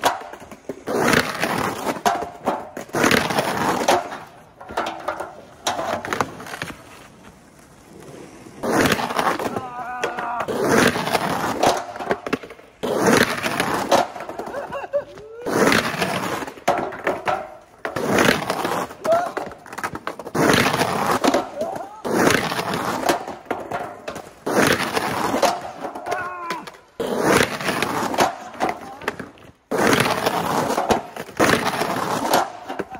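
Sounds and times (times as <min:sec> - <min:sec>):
skateboard clattering: 0:00.0 - 0:32.9
skateboard trucks scraping curbs: 0:00.0 - 0:32.9
skateboard wheels rolling on concrete: 0:00.0 - 0:32.9.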